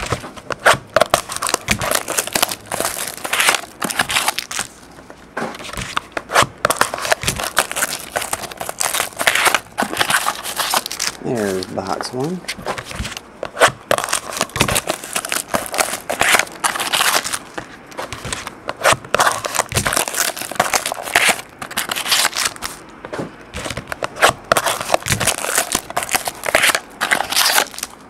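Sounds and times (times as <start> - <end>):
plastic shrink-wrap crinkling: 1.0 - 4.8, 6.6 - 12.1, 13.8 - 22.8, 23.6 - 28.0.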